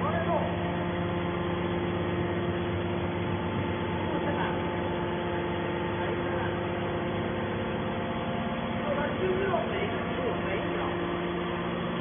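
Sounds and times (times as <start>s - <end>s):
hydraulic machine humming: 0.0s - 12.0s.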